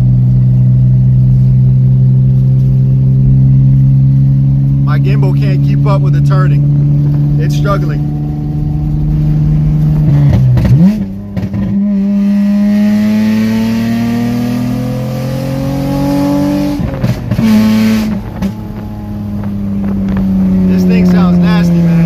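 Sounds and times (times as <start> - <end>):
car engine revving: 0.0 - 22.0
exhaust cracks: 0.0 - 22.0.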